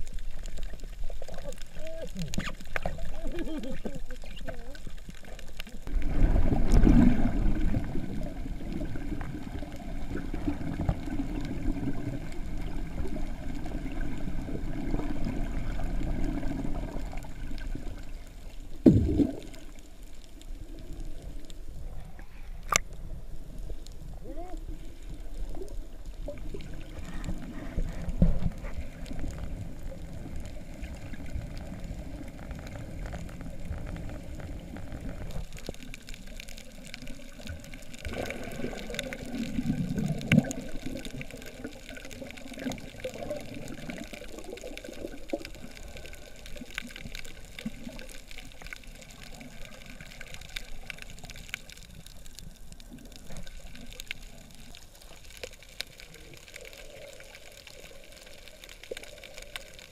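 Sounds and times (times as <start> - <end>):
faint clicks underwater: 0.0 - 59.9
muffled underwater water rumble: 0.0 - 59.9
water bubbling and gurgling: 0.0 - 59.9.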